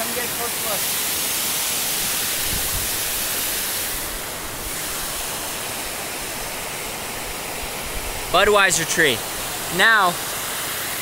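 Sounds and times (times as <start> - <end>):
fast river rushing: 0.0 - 11.0.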